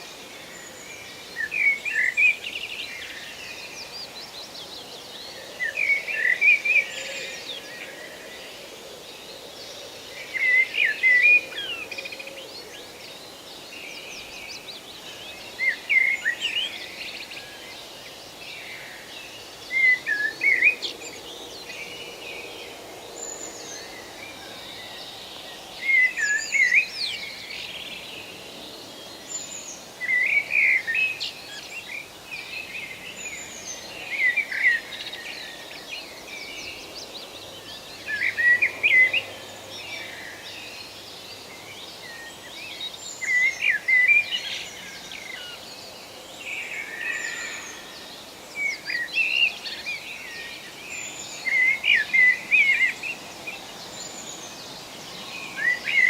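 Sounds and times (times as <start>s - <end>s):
forest background hiss: 0.0s - 56.0s.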